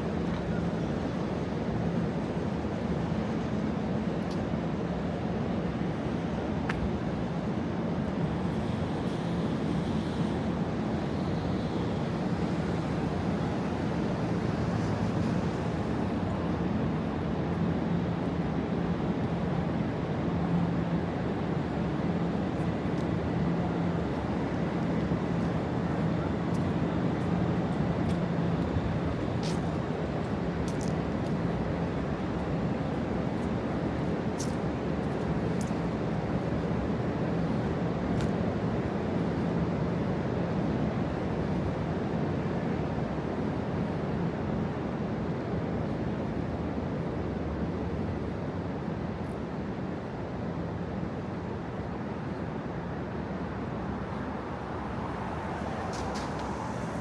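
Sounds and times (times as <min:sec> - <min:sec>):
city street traffic rumble: 0:00.0 - 0:57.0.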